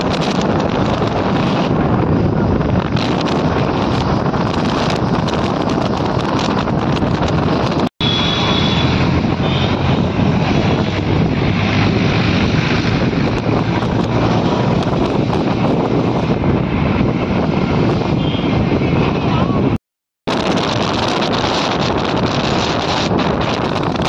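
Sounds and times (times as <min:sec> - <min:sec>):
engine drone: 0:00.0 - 0:24.0
road noise: 0:00.0 - 0:24.0
wind rushing over microphone: 0:00.0 - 0:24.0.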